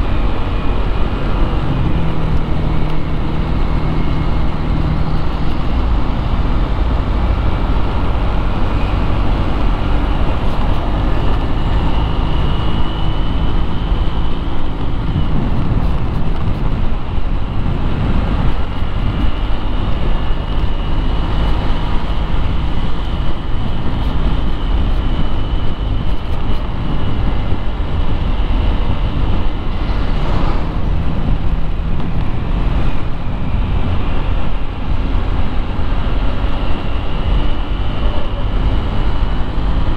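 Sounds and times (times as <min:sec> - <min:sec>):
road and traffic noise: 0:00.0 - 0:39.9.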